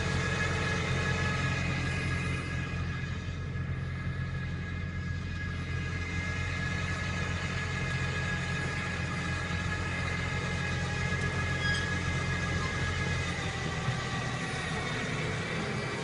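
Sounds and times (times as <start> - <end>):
tractor engine hum: 0.0 - 16.0.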